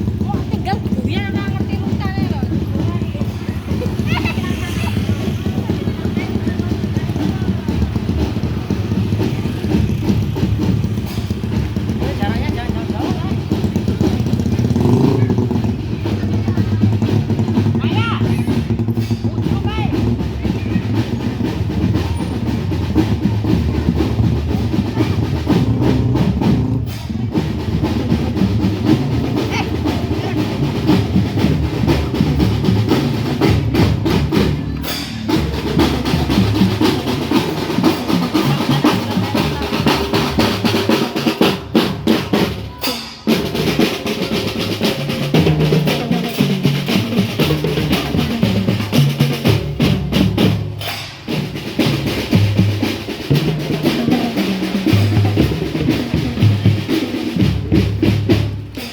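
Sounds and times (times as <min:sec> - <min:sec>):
bass drums steady beat: 0:00.0 - 0:58.9.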